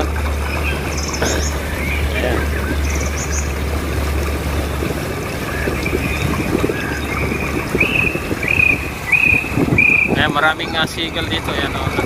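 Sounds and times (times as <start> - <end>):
small waves washing on shore: 0.0 - 12.0
wind on microphone: 0.0 - 12.0.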